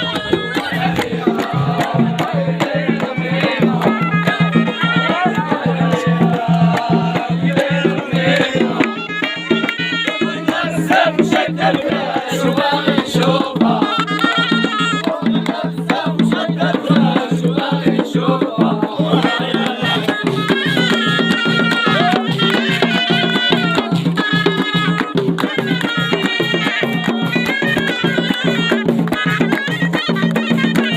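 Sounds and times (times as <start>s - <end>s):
shawm playing high melody: 0.0s - 17.2s, 19.0s - 30.9s
regular drum beat: 0.0s - 30.9s.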